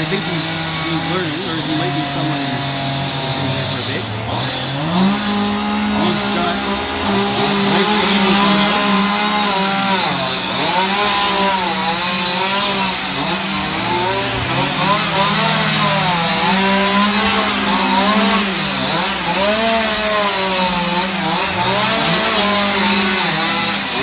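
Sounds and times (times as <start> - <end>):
chainsaw revving while cutting: 0.0 - 24.0
chainsaw running steadily: 0.0 - 24.0.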